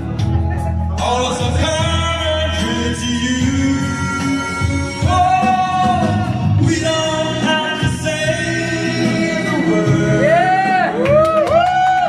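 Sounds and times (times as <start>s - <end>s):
backing track over loudspeaker: 0.0s - 11.3s
person singing karaoke: 0.0s - 12.0s.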